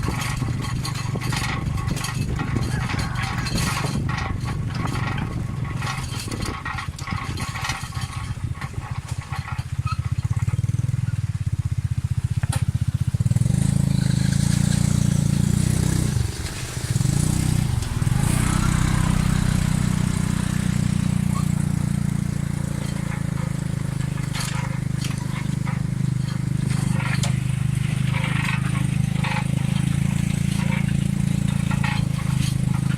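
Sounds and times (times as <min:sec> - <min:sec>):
carriage rattling over bumps: 0:00.0 - 0:32.9
motorcycle engine under load: 0:00.0 - 0:32.9.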